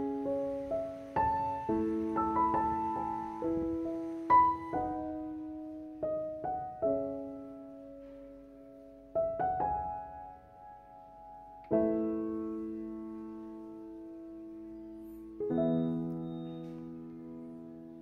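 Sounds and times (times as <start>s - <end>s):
slow soft piano music: 0.0s - 18.0s.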